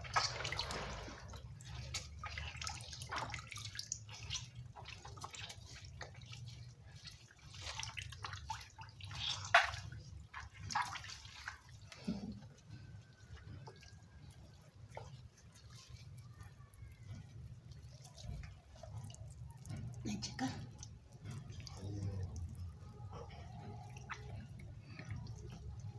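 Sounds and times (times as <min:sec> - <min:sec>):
water splashing in a basin: 0:00.0 - 0:25.9.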